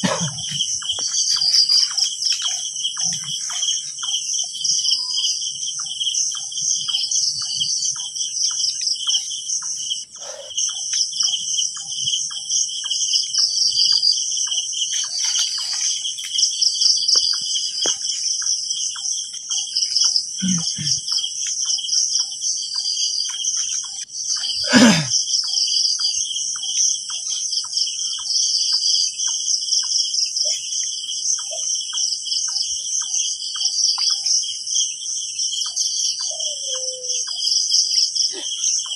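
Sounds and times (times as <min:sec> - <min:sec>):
crickets trilling: 0:00.0 - 0:38.9
soft low insect chirp: 0:00.0 - 0:38.9.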